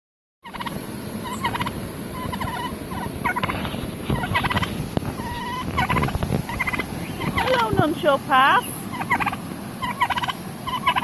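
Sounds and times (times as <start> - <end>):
turkey gobbling: 0.4 - 7.8, 8.6 - 11.0.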